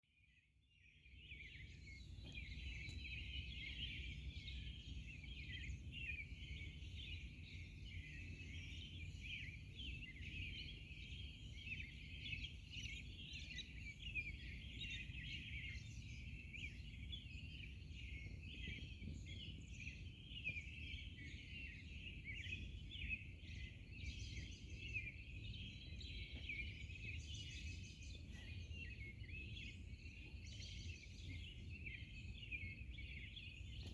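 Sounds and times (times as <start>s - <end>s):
songbirds chirping: 0.2s - 33.9s.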